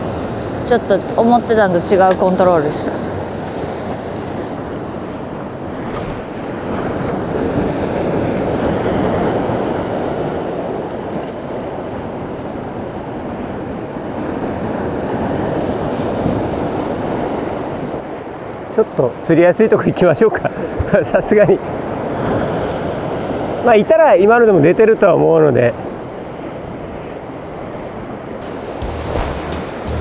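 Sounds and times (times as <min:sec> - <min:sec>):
sea surf breaking over boulders: 0:00.0 - 0:30.0.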